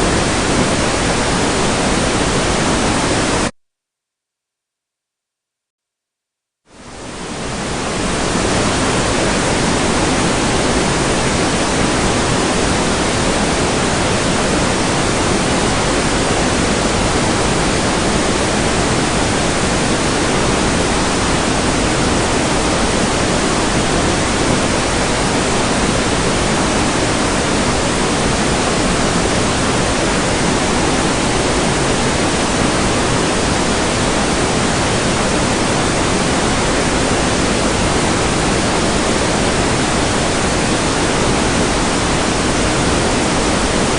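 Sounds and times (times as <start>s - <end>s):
heavy rain: 0.0s - 3.5s, 6.7s - 43.9s.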